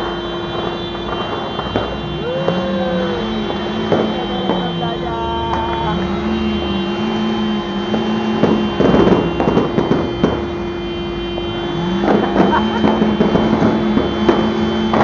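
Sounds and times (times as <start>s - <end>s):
firecrackers crackling: 0.0s - 15.0s.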